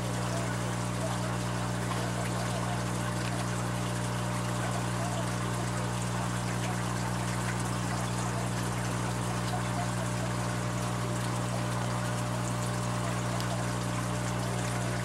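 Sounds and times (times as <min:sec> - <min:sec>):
low pump hum: 0:00.0 - 0:15.0
trickling water: 0:00.0 - 0:15.0.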